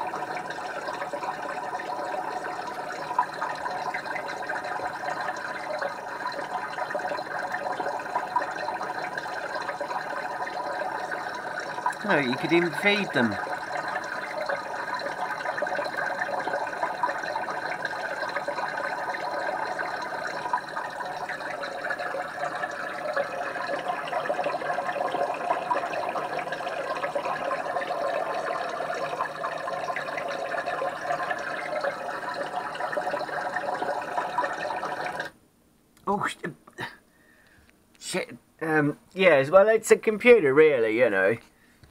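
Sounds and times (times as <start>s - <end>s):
aquarium water bubbling: 0.0s - 35.4s.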